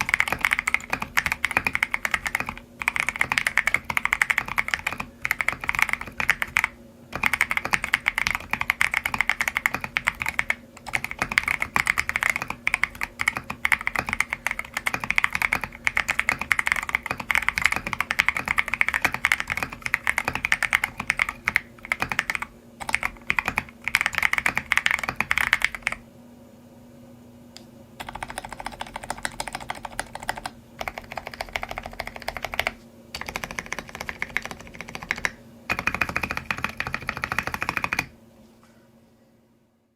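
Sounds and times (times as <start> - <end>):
fast mechanical keyboard typing: 0.0 - 26.0, 28.0 - 38.1.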